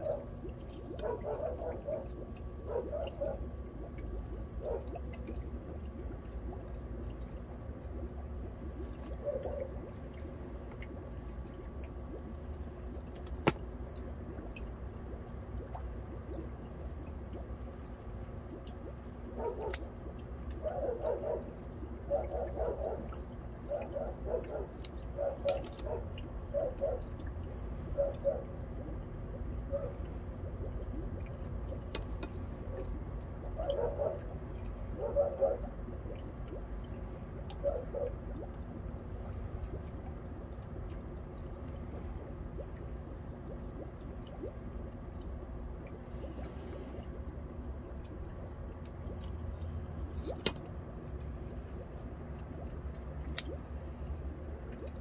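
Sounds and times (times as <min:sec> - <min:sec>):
steady low hum: 0:00.0 - 0:55.0
water gurgling and trickling: 0:00.0 - 0:55.0.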